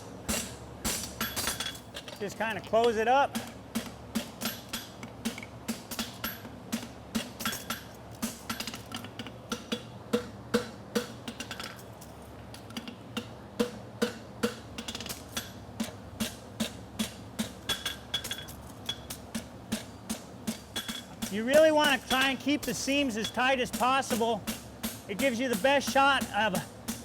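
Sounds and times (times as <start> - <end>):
hammer striking steel on anvil: 0.2 - 2.2, 2.8 - 11.8, 13.2 - 27.0.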